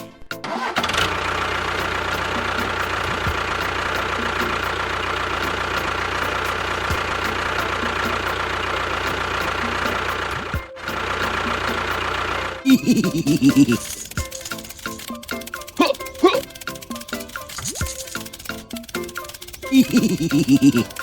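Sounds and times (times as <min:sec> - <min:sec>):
small engine running: 0:00.4 - 0:21.0.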